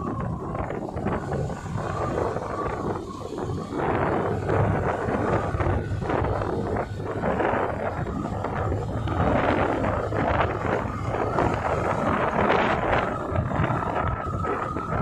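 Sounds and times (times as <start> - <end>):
motorcycle engine: 0.0 - 15.0
road rumble: 0.0 - 15.0
wind buffeting microphone: 0.0 - 15.0.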